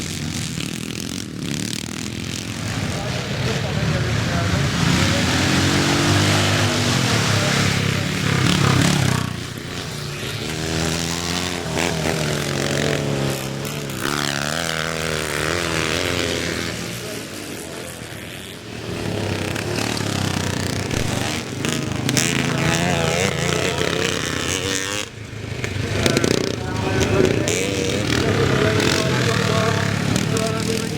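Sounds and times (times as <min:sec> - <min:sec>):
motorcycle engines revving: 0:00.0 - 0:30.9.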